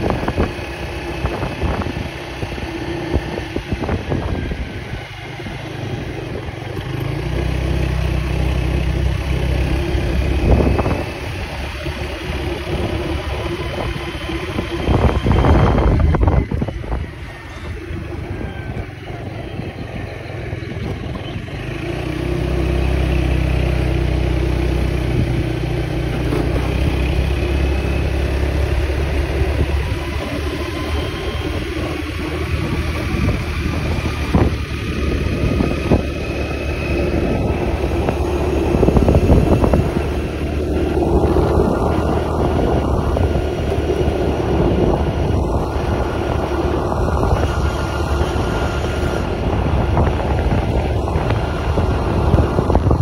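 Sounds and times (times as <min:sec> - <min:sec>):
wind on microphone: 0:00.0 - 0:06.9, 0:07.9 - 0:53.0
vehicle engine running: 0:00.0 - 0:53.0.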